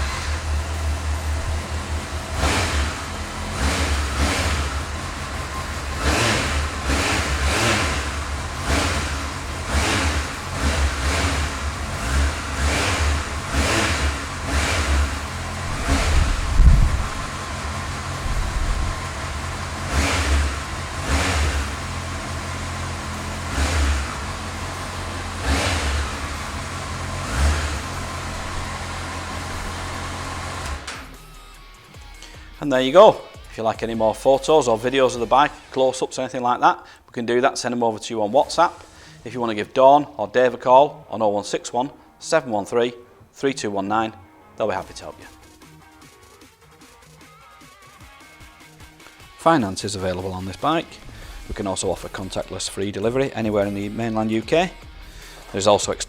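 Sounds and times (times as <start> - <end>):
motorcycle engine revving: 0.0 - 47.2, 48.7 - 56.0.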